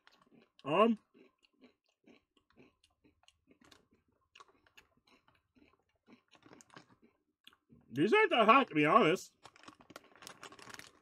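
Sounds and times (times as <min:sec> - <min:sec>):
chewing crunchy corn chips: 0:00.0 - 0:11.0.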